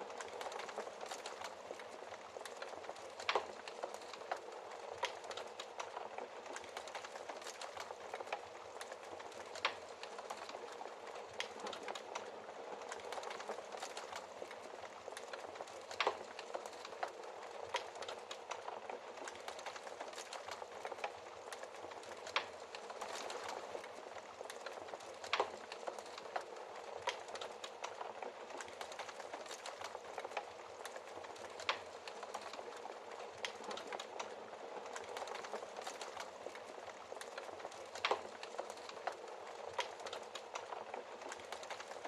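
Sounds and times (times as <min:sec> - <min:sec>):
fire crackling in fireplace: 0:00.0 - 0:42.0.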